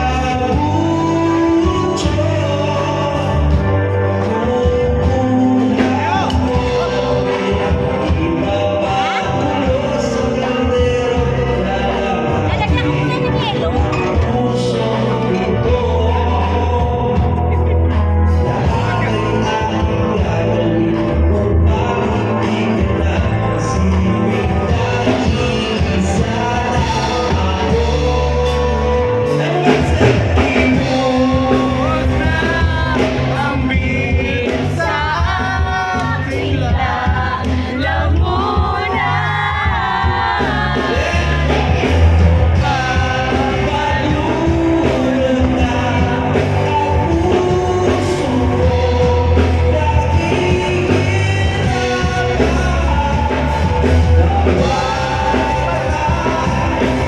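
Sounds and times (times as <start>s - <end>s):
loud rock music with singing: 0.0s - 57.0s.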